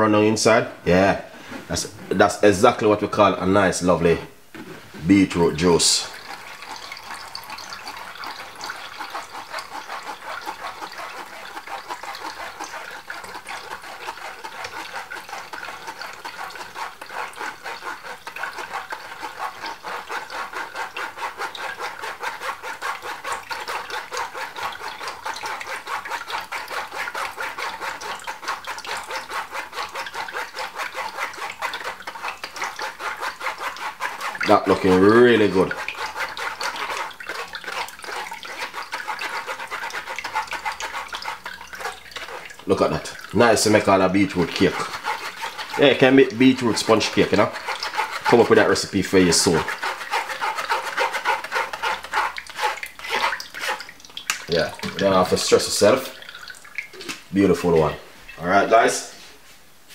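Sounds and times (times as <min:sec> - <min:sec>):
spoon scraping pulp in sieve: 0:01.4 - 0:58.0
juice trickling into jug: 0:04.9 - 0:58.4.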